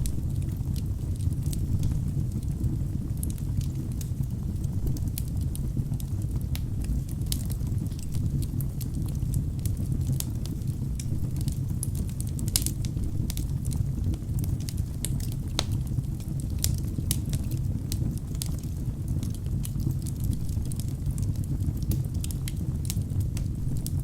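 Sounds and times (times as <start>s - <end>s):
fire flames rumbling: 0.0s - 24.0s
logs crackling and popping: 0.0s - 24.0s.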